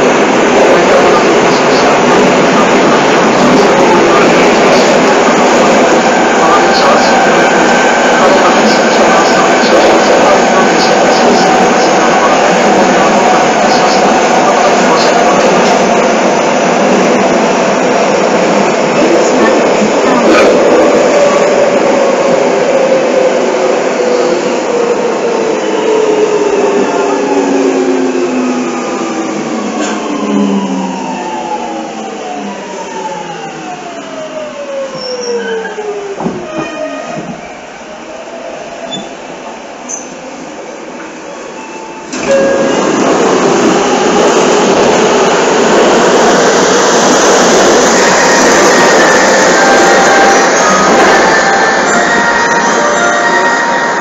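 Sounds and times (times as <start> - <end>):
underground train running: 0.0 - 54.0.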